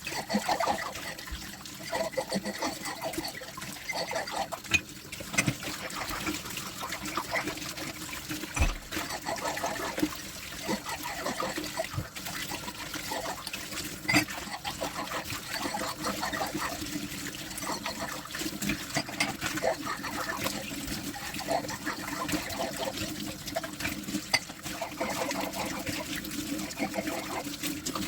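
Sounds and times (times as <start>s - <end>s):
water running at a sink: 0.0s - 28.0s.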